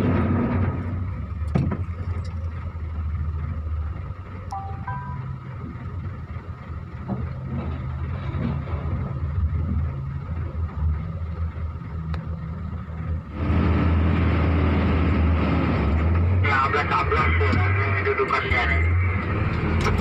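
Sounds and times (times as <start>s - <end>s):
engine droning: 0.0s - 20.0s.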